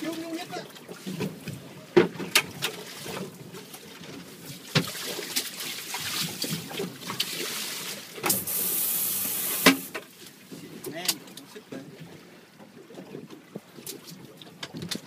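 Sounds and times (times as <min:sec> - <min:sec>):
waves slapping boat hull: 0:00.0 - 0:15.0.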